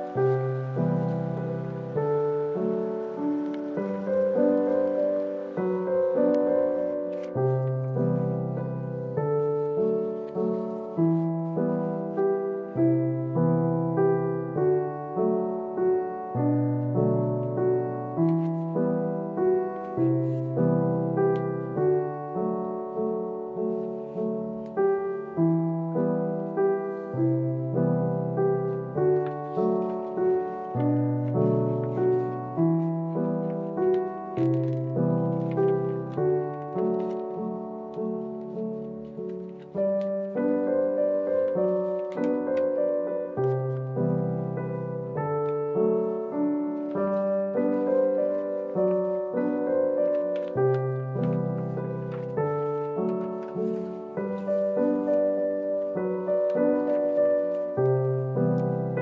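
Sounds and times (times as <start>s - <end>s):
piano music: 0.0s - 59.0s.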